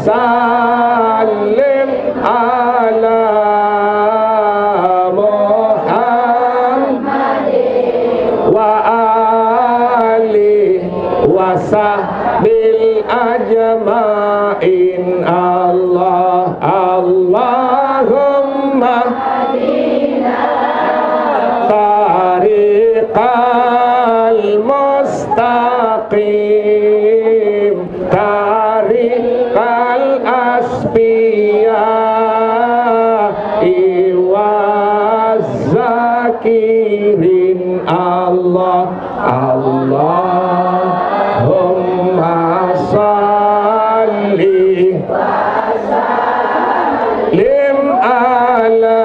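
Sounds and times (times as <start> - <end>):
man chanting into a microphone: 0.0 - 7.1, 8.4 - 19.5, 21.4 - 45.8, 47.3 - 49.0.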